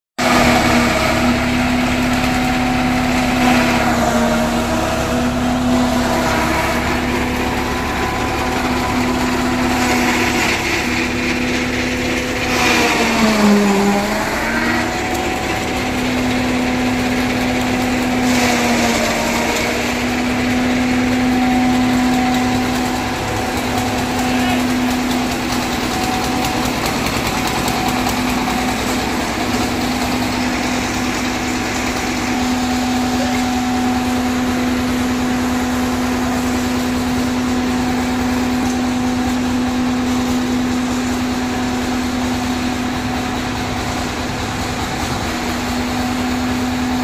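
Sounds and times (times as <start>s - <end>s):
silage chopper whine: 0.2s - 47.0s
tractor diesel engine running: 0.2s - 47.0s.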